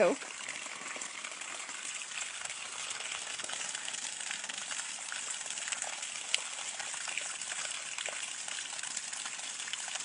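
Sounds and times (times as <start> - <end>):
water gushing from log: 0.0 - 10.0.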